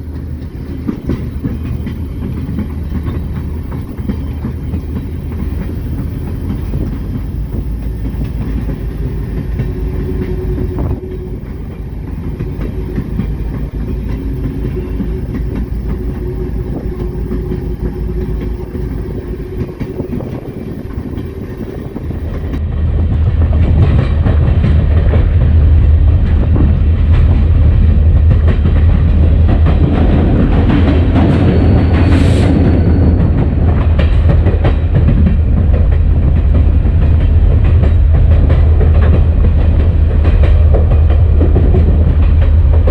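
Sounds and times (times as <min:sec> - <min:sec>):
diesel locomotive rumble: 0:00.0 - 0:42.9.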